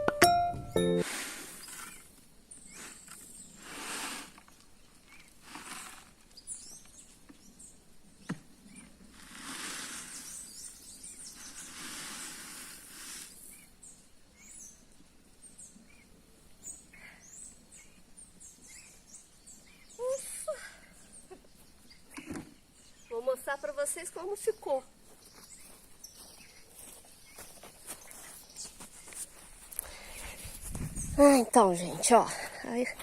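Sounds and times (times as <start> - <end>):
wind through vegetation: 0.0 - 33.0
small birds chirping: 1.5 - 3.8, 4.4 - 9.1, 9.7 - 33.0.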